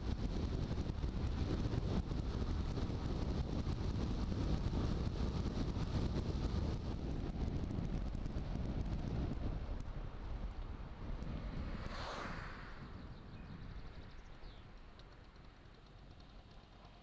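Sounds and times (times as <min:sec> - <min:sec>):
wind rushing over microphone: 0:00.0 - 0:16.3
engine and tyre rumble: 0:00.0 - 0:17.0.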